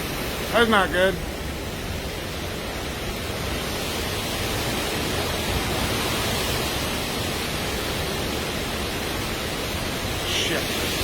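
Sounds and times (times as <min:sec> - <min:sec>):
heavy rain: 0:00.0 - 0:11.0
strong wind: 0:00.0 - 0:11.0.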